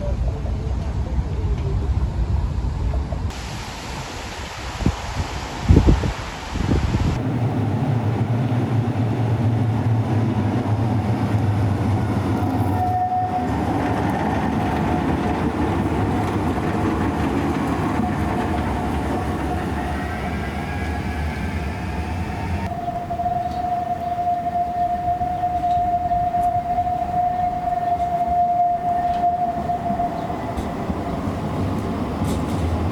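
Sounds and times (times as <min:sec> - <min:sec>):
tram rumbling on rails: 0:00.0 - 0:32.9.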